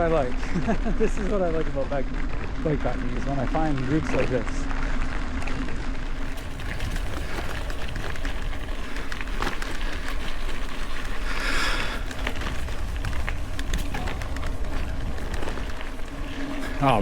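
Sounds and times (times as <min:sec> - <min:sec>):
bicycle tyres rumbling: 0:00.0 - 0:17.0.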